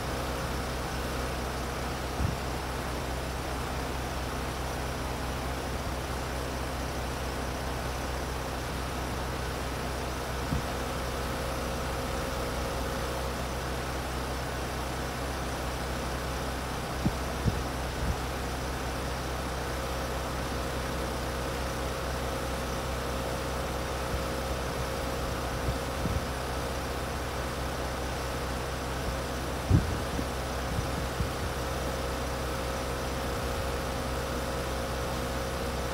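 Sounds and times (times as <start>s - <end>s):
compressor hum: 0.0s - 35.9s
fan air rushing: 0.0s - 35.9s.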